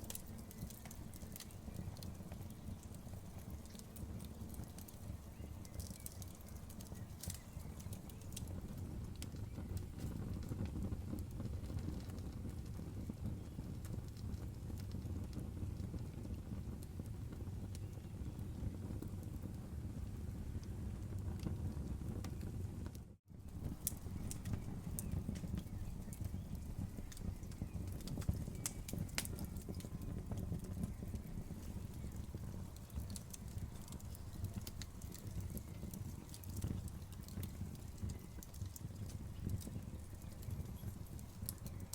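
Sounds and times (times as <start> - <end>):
campfire crackling and popping: 0.0 - 41.9
low rumble of burning fire: 0.0 - 41.9.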